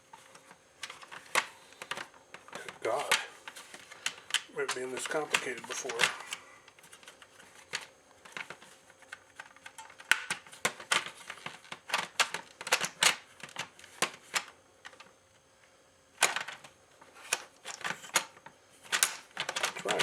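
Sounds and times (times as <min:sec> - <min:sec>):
plastic parts clicking and clattering: 0:00.1 - 0:15.1, 0:16.2 - 0:20.0.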